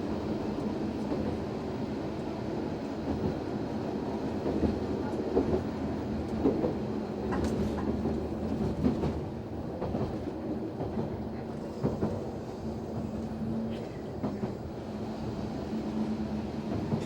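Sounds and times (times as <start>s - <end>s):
railcar engine rumble: 0.0s - 17.0s.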